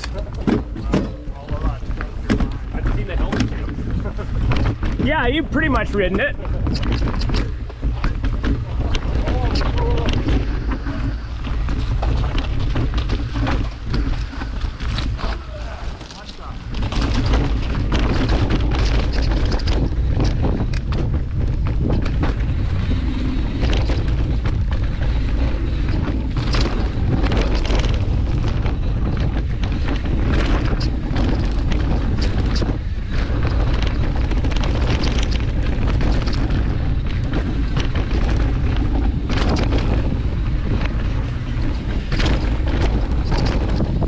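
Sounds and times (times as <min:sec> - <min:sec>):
bike clattering over bumps: 0:00.0 - 0:44.0
wind buffeting microphone: 0:00.0 - 0:44.0.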